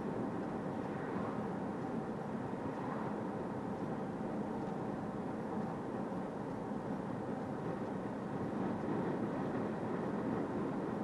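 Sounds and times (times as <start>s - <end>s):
tyre road noise inside car: 0.0s - 11.0s.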